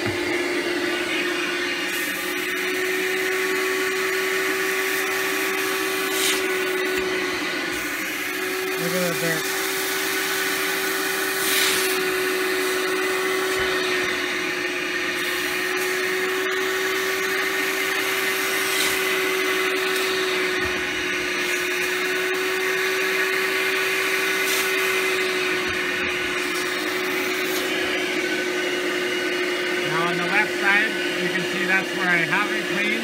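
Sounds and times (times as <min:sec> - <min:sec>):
carpet shampooer motor whine: 0:00.0 - 0:33.0
suction rush: 0:00.0 - 0:33.0.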